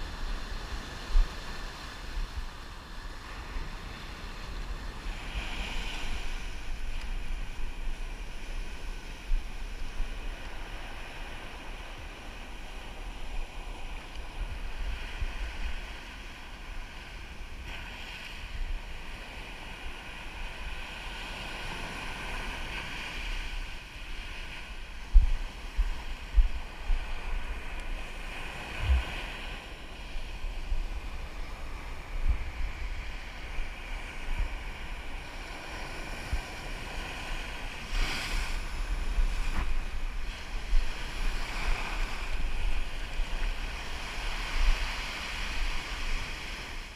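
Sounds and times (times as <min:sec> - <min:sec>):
surf washing over rocks: 0:00.0 - 0:46.9
wind buffeting microphone: 0:00.0 - 0:46.9.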